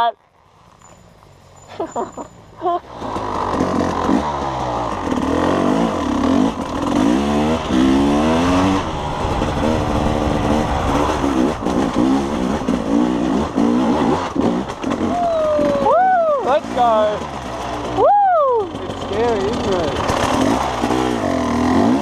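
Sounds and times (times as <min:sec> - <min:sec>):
two-stroke motorbike engine revving: 0:01.8 - 0:22.0.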